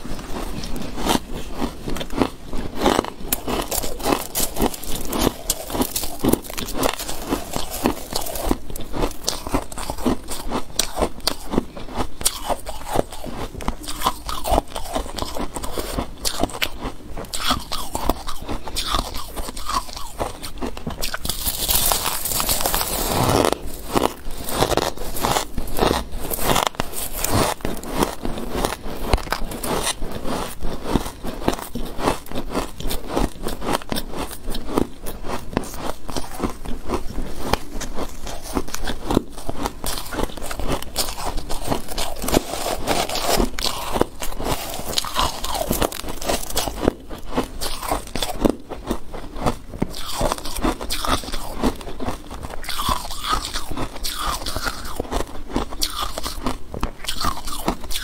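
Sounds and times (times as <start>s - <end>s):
chewing crunchy shaved ice: 0.0s - 58.0s.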